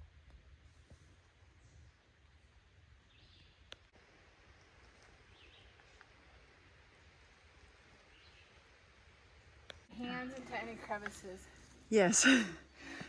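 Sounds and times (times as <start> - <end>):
faint woodland ambience: 0.0 - 13.0.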